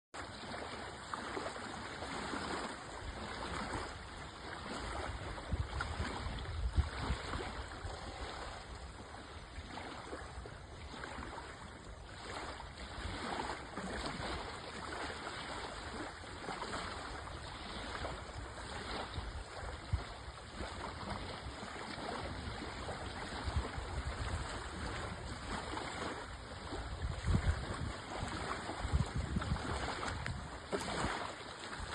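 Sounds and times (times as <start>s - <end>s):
water splashing along hull: 0.2s - 31.9s.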